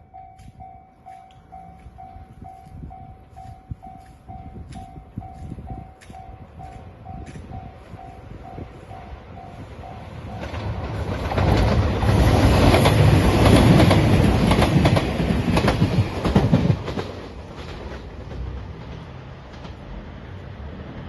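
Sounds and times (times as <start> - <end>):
diesel train passing: 0.0 - 21.0
train wheels clacking on rail joints: 0.2 - 20.3.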